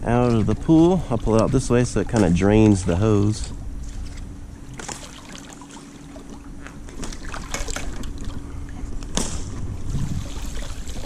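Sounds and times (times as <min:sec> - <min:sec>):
water trickling and splashing: 0:00.0 - 0:08.4, 0:09.8 - 0:11.0
faint steady hum: 0:00.0 - 0:11.0.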